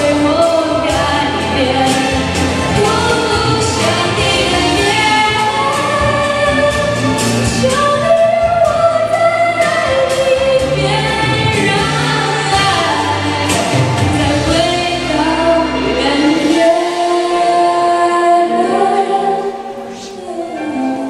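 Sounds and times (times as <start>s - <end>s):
musical accompaniment: 0.0s - 21.0s
woman singing pop song: 0.0s - 21.0s.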